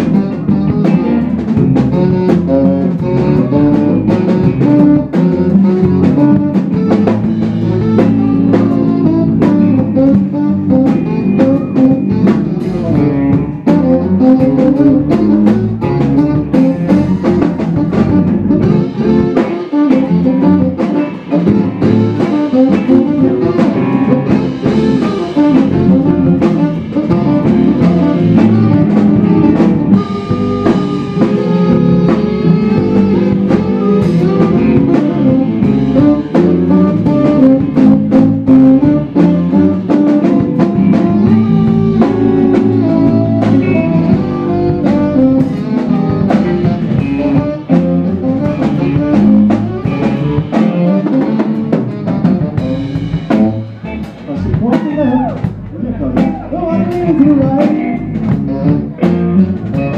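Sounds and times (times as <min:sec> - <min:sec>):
drum kit steady beat: 0:00.0 - 0:59.9
electric guitar: 0:00.0 - 0:59.9
saxophone lead: 0:00.0 - 0:59.9.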